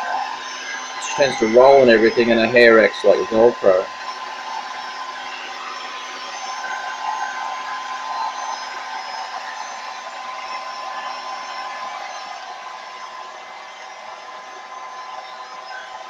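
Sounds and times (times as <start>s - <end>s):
hair dryer blowing: 0.0s - 16.0s.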